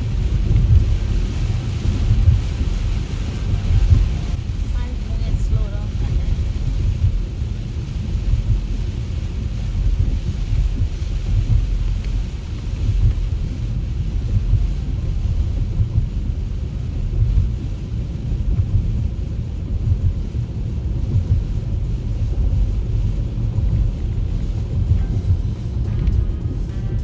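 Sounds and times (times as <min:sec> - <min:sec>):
car driving at highway speed: 0:00.0 - 0:27.0.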